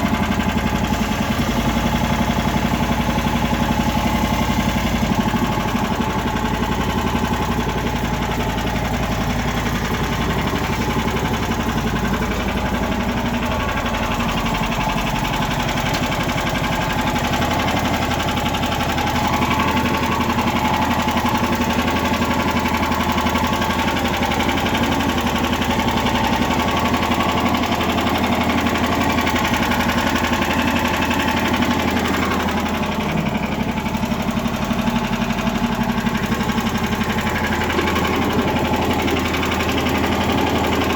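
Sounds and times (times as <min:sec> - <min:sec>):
petrol engine running: 0:00.0 - 0:40.9.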